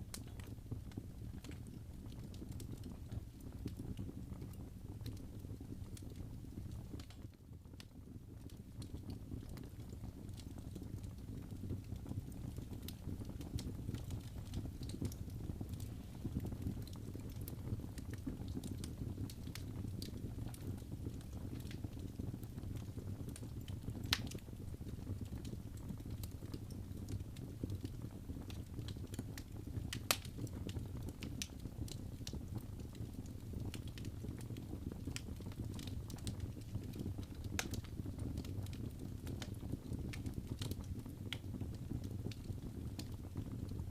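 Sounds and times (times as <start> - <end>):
fire crackling and snapping: 0.0 - 43.9
fire rumbling: 0.0 - 43.9.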